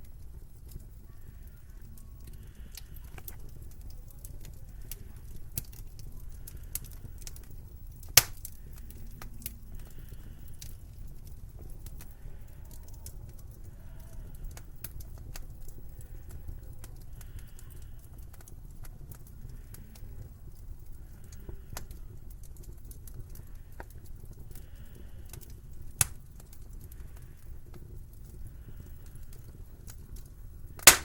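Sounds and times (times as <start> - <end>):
fire pops: 0.0 - 31.0
wood fire crackling: 0.0 - 31.0.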